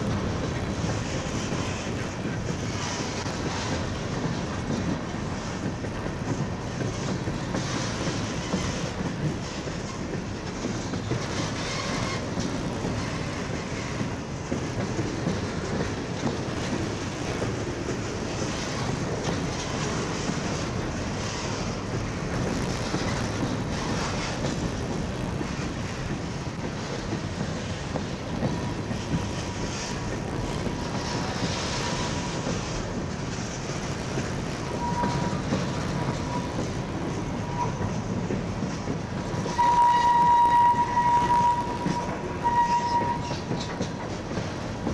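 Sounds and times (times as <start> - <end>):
freight train cars rolling past: 0.0 - 44.9
wheels clacking on rail joints: 0.0 - 44.9.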